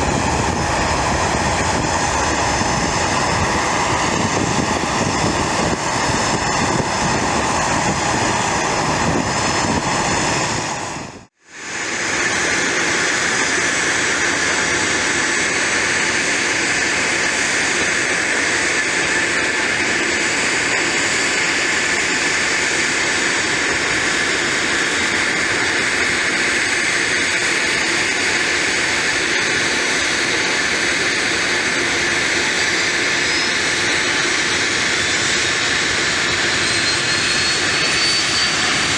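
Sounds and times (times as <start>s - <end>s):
airliner jet engines climbing: 0.0s - 38.9s
business jet engines whining: 0.0s - 38.9s.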